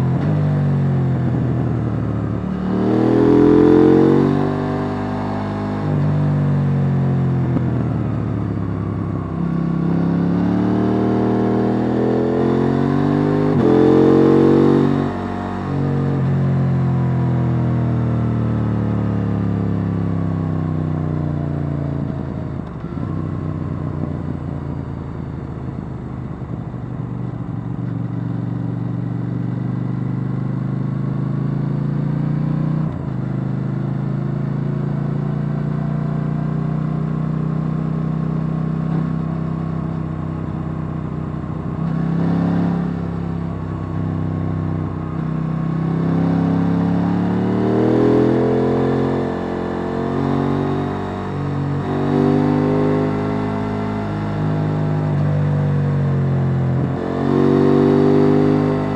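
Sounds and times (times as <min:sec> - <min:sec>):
motorcycle engine while riding: 0:00.0 - 0:58.9.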